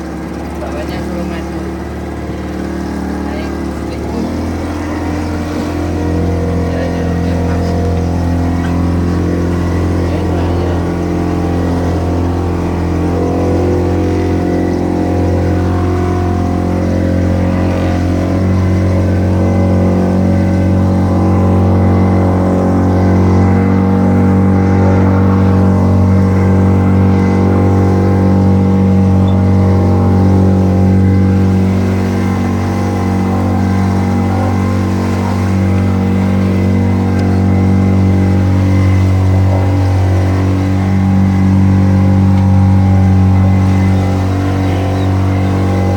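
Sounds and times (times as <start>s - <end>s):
speedboat engine droning: 0.0s - 45.9s.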